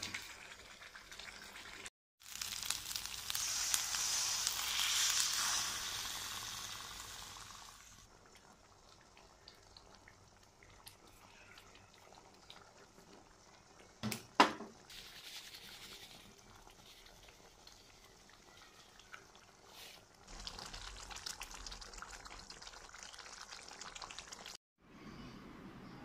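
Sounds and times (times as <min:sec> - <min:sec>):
chili paste sizzling in oil: 0:00.0 - 0:24.6.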